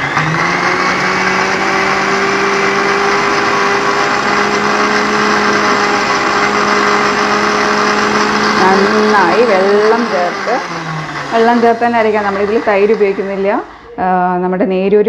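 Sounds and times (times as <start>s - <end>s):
mixer grinder motor whine: 0.0s - 14.0s.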